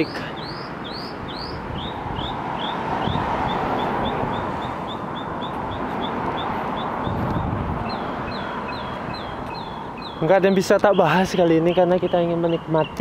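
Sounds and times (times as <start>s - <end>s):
bird chirping: 0.0s - 13.0s
street traffic hum: 0.0s - 13.0s.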